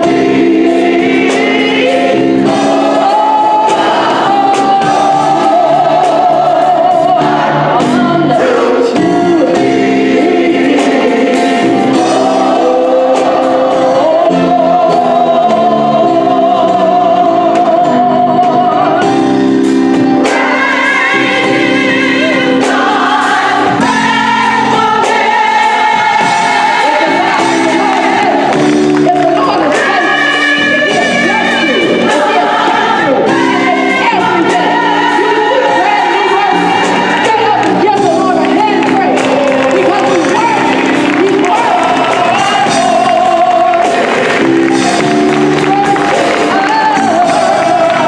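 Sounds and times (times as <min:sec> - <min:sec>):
choir singing held chords: 0:00.0 - 0:48.0
drums: 0:00.0 - 0:48.0
woman singing lead with vibrato: 0:00.0 - 0:48.0.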